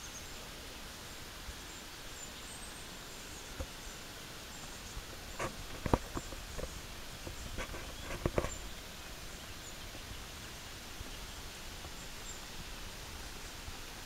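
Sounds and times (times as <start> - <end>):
moving water: 0.0 - 14.0
wind: 0.0 - 14.0.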